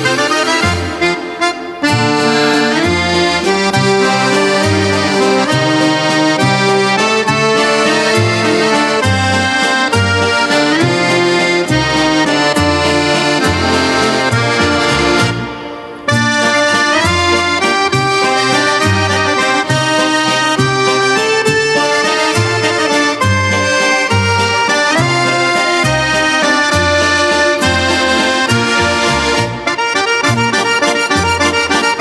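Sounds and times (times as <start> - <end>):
instrumental background music: 0.0 - 32.0.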